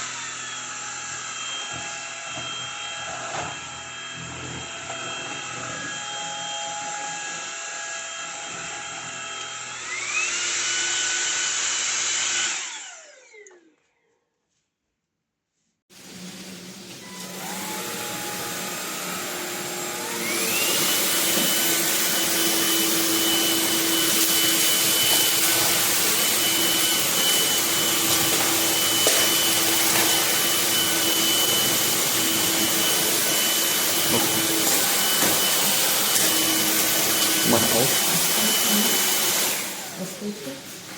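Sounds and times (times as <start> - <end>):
vacuum cleaner motor whine: 0.0 - 13.8, 16.0 - 40.9.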